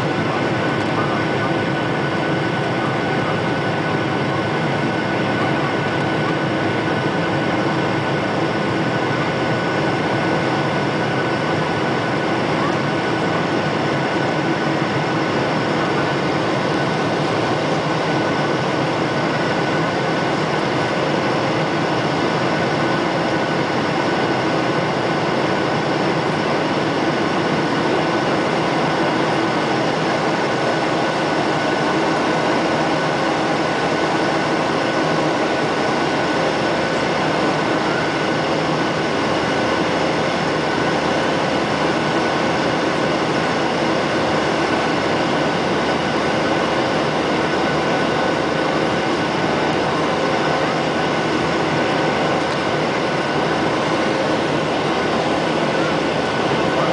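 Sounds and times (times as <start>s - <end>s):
jet engine roar in cabin: 0.0s - 56.9s
thin steady whine: 0.0s - 56.9s.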